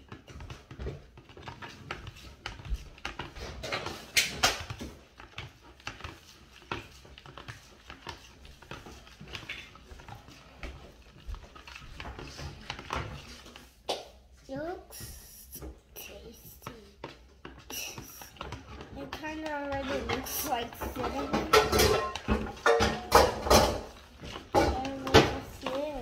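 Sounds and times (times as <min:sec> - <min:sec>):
utensil stirring in plastic bowl: 0:00.0 - 0:26.0.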